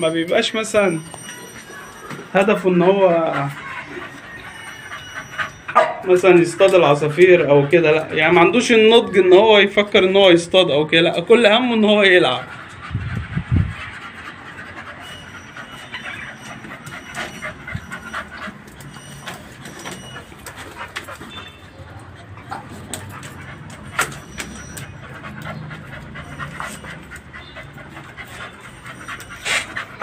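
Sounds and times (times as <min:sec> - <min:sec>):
dogs panting: 0:00.0 - 0:30.0.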